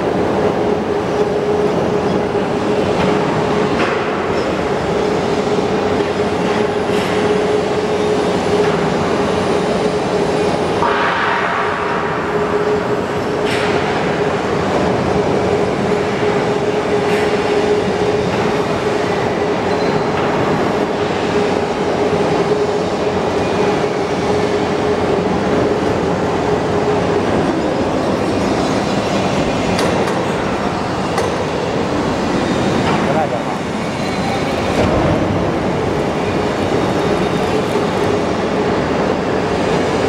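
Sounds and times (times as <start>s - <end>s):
steel wheels rumbling on rails: 0.0s - 40.0s.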